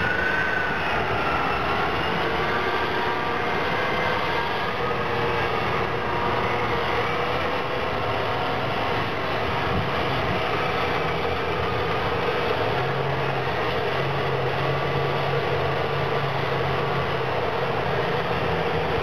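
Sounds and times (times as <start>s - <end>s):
heavy diesel engines running: 0.0s - 19.0s.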